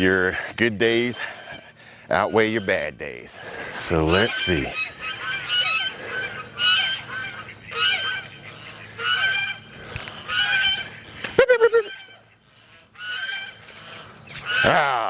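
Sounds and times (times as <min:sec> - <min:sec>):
fowl honking calls: 0:01.2 - 0:15.0.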